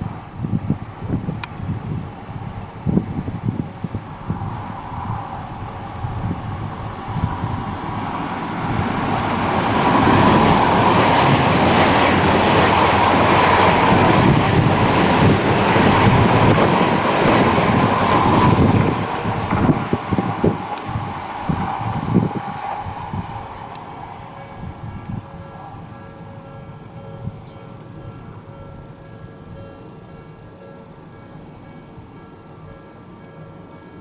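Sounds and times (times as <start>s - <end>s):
electric train passing: 0.0s - 34.0s.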